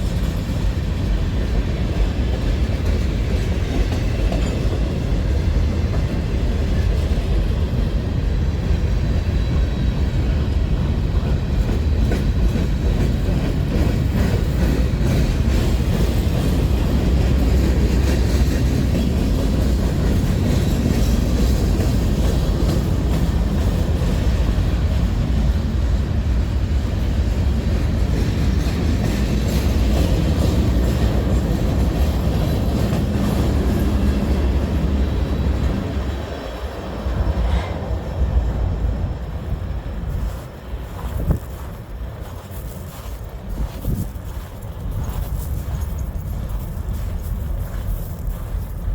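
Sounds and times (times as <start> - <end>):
train rumbling over rails: 0.0 - 48.9.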